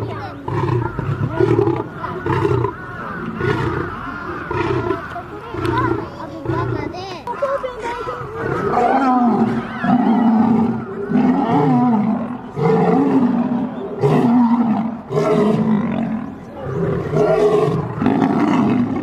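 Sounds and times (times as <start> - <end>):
lions snarling and roaring: 0.0 - 19.0.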